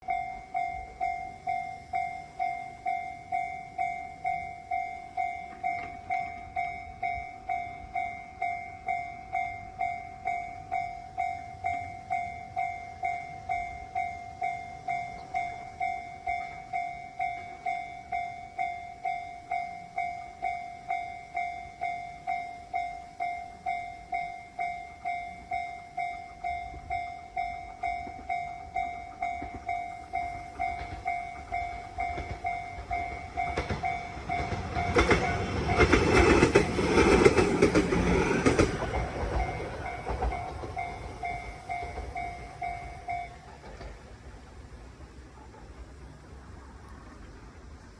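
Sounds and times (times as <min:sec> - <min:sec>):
railroad crossing bell ringing: 0:00.0 - 0:45.7.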